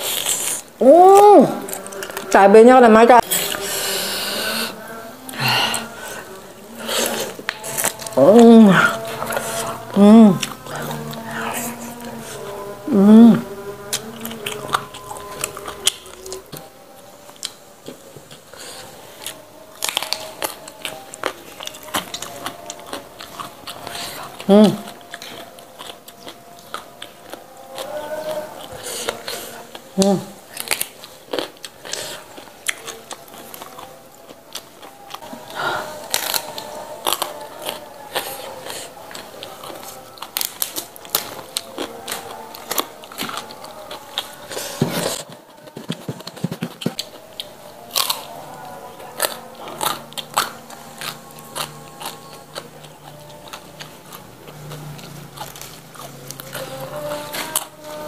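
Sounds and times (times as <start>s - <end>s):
chewing crunchy leafy greens: 0.0s - 2.4s, 3.2s - 58.0s.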